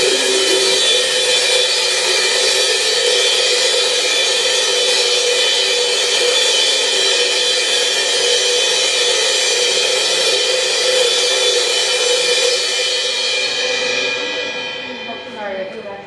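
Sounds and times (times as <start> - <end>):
cymbals ringing: 0.0 - 16.0.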